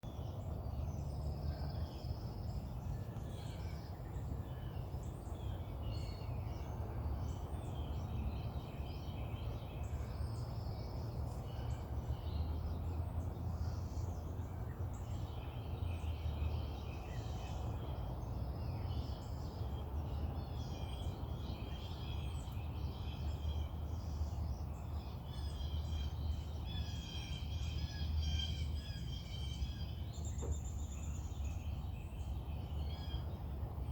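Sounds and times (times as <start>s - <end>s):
distant birds singing: 0.0s - 33.9s.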